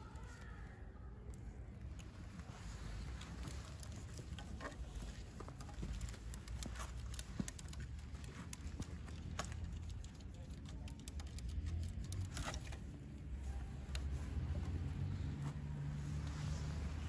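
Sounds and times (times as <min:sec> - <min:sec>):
low outdoor rumble: 0:00.0 - 0:17.0
light clicks and taps: 0:01.2 - 0:15.6.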